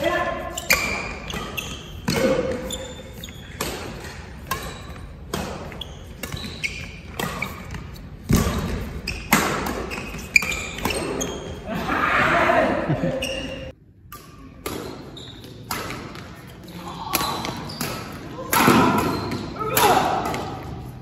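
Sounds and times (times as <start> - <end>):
shoes squeaking on court floor: 0.4 - 11.7, 13.1 - 21.0
rackets hitting shuttlecock: 0.6 - 11.6, 14.0 - 21.0.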